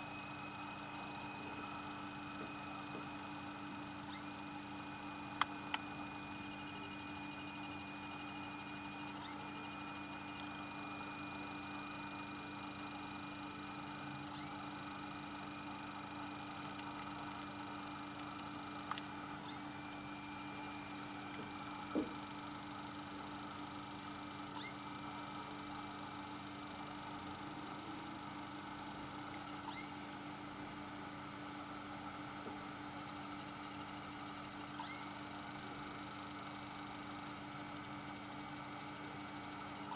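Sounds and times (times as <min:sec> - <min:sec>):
power supply whistling: 0:00.0 - 0:39.9.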